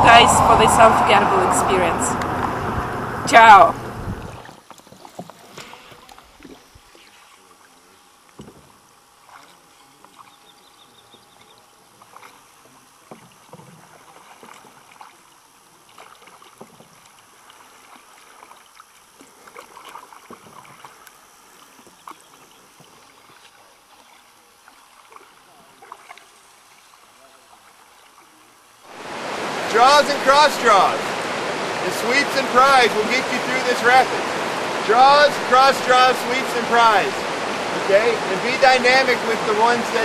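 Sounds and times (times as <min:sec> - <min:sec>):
paddle splashes: 0:00.0 - 0:10.4, 0:11.4 - 0:40.0.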